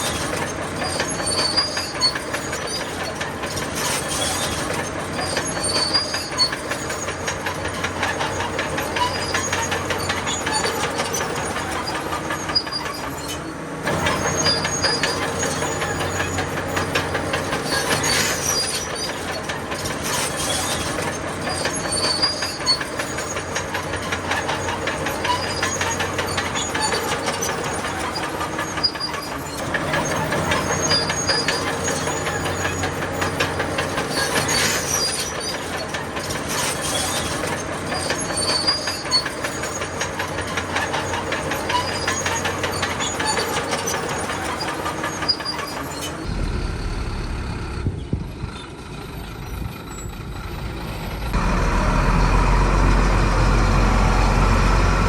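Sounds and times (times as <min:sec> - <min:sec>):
crawler tracks clanking and squealing: 0:00.0 - 0:55.0
diesel engine under load: 0:00.0 - 0:55.0.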